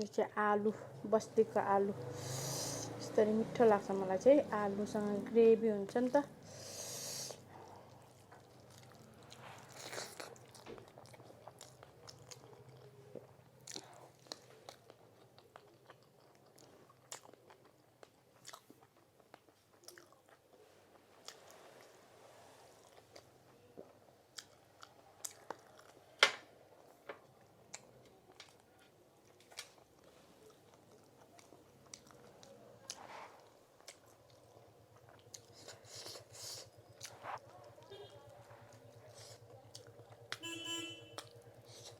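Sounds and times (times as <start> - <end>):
person chewing food: 6.5 - 22.0, 22.8 - 40.4, 41.1 - 41.9.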